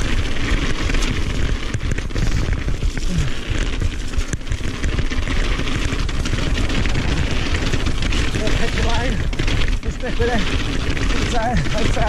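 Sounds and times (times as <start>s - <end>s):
bike rattling and knocking: 0.0s - 12.0s
tyres on gravel: 0.0s - 12.0s.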